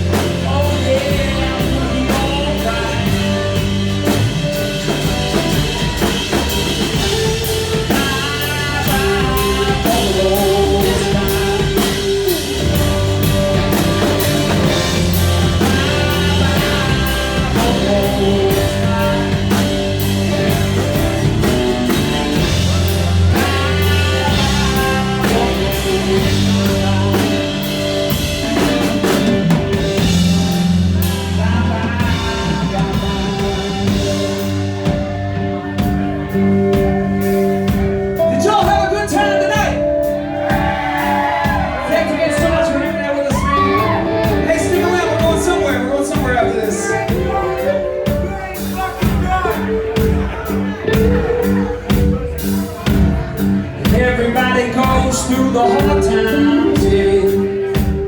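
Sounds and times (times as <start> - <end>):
bass and guitar: 0.0 - 58.0
drum kit beat: 0.0 - 58.0
gliding lead melody: 0.0 - 58.0.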